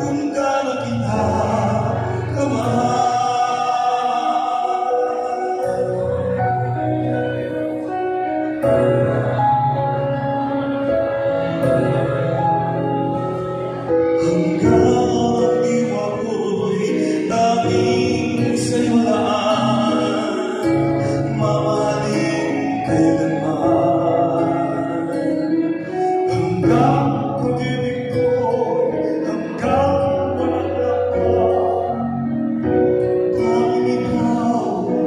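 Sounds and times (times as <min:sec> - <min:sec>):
man singing into microphone: 0:00.0 - 0:10.5, 0:11.3 - 0:35.0
instrumental accompaniment: 0:00.0 - 0:35.0.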